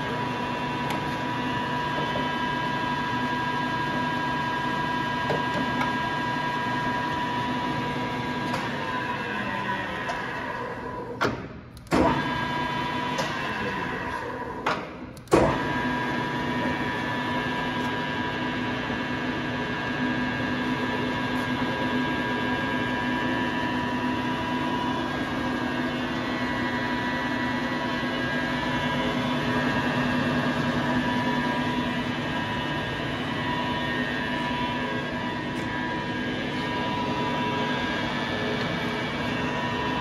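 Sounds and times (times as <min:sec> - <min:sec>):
lathe running with gear whine: 0:00.0 - 0:11.2, 0:12.0 - 0:14.6, 0:15.4 - 0:40.0.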